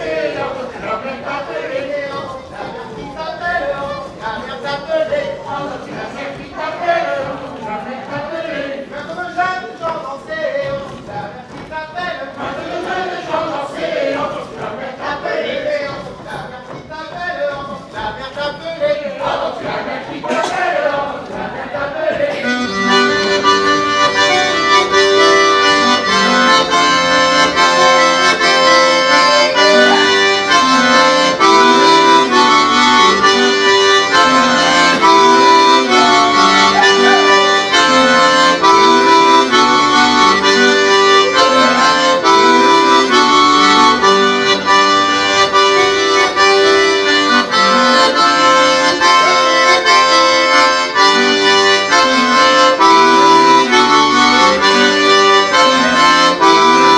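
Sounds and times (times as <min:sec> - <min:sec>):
traditional dance music: 0:00.0 - 0:56.9.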